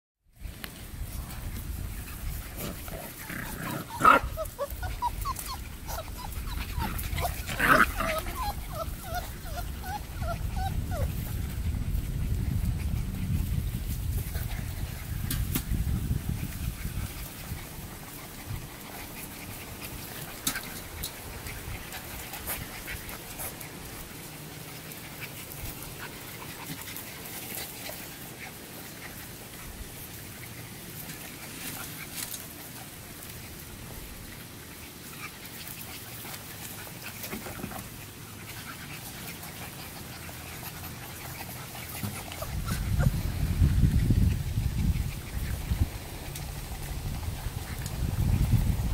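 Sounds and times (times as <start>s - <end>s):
puppy sounds and panting: 0.4s - 48.9s.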